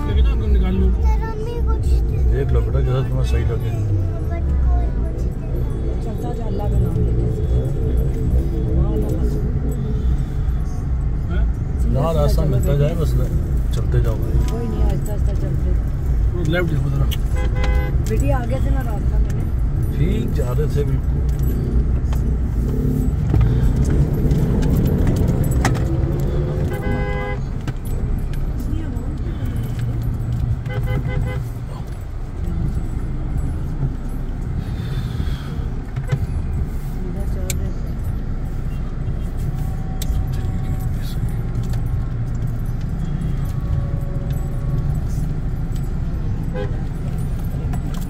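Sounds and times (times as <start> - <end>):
car engine and road rumble: 0.0 - 48.0
faint clicks and jingles: 0.0 - 48.0.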